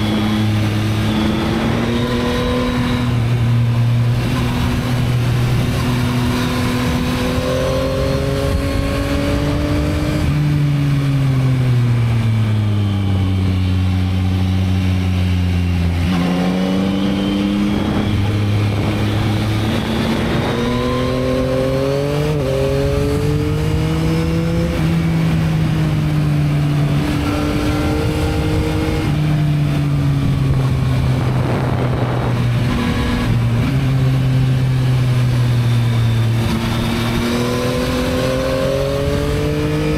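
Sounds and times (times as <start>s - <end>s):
wind noise: 0.0s - 14.6s, 15.7s - 39.9s
motorcycle engine revving: 0.0s - 39.9s.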